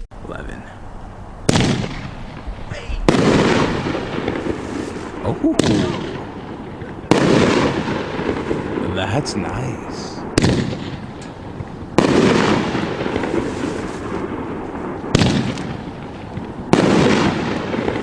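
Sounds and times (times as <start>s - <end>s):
firework cake booming shots: 1.5s - 18.0s.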